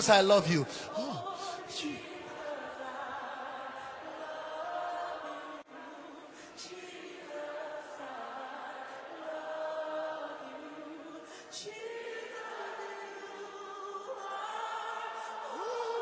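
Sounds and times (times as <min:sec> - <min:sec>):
congregation singing: 0:00.0 - 0:16.0.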